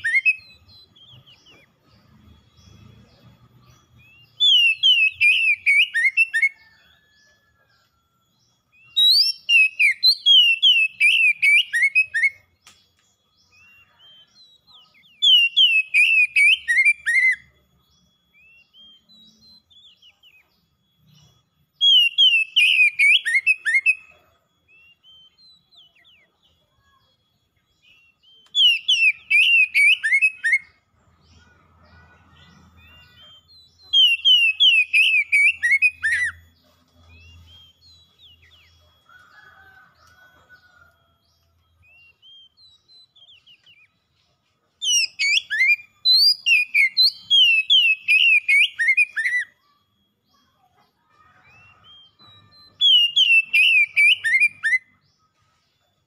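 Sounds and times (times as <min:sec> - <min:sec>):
bird whistled song: 0:00.0 - 0:40.8, 0:41.4 - 0:55.8.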